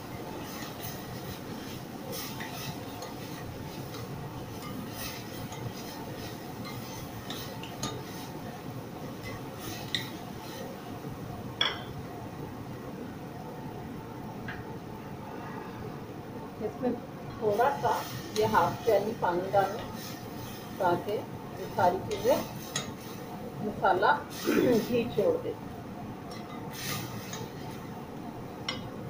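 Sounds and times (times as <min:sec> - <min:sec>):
frying sizzle: 0:00.0 - 0:15.2, 0:16.6 - 0:29.0.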